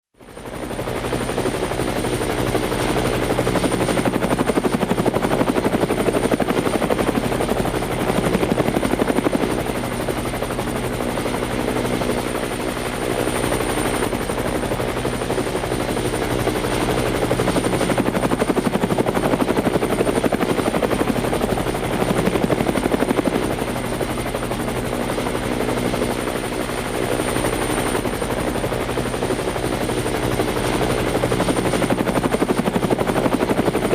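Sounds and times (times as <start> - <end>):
helicopter engine drone: 0.2 - 33.9
helicopter rotor blades chopping: 0.2 - 33.9.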